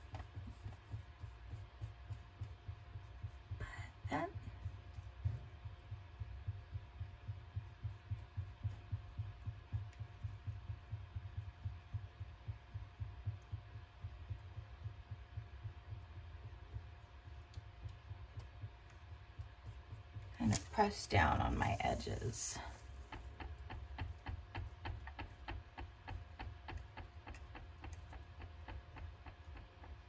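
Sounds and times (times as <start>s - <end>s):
brush dabbing soft thuds: 0.0s - 30.0s
faint steady hum: 0.0s - 30.0s.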